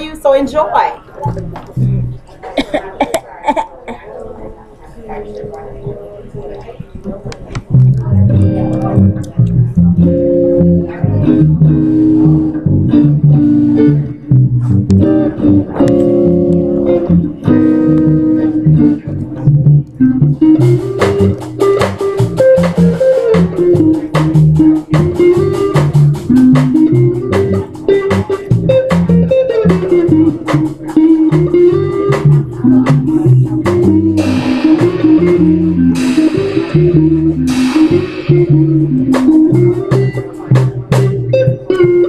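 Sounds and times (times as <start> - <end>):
jazz band playing: 0.0 - 2.3, 5.2 - 42.0
sharp rhythmic hits: 6.8 - 42.0.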